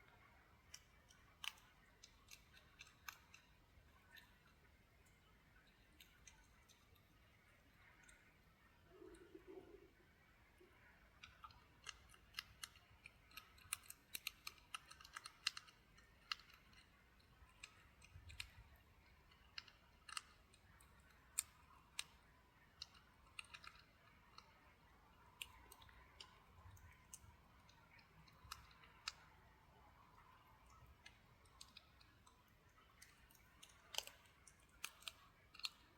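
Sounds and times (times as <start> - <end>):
hedgehog crunching cat biscuits: 0.0 - 9.8, 10.5 - 35.9.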